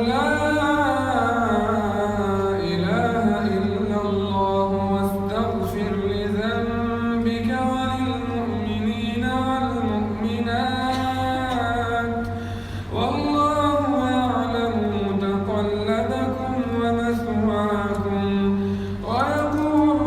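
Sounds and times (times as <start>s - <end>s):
man reciting melodically: 0.0s - 20.0s
steady low hum: 0.0s - 20.0s.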